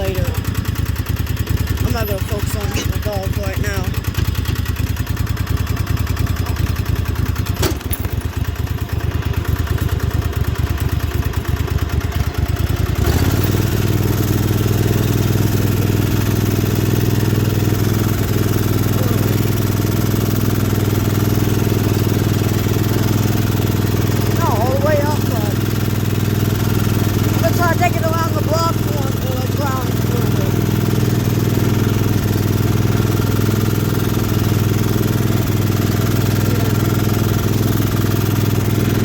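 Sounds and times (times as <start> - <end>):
lawnmower engine running: 0.0 - 39.0.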